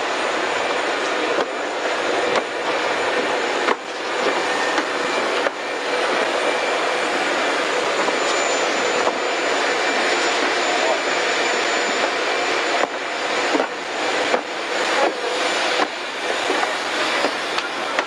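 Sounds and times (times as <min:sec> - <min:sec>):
aircraft engines running: 0:00.0 - 0:18.0.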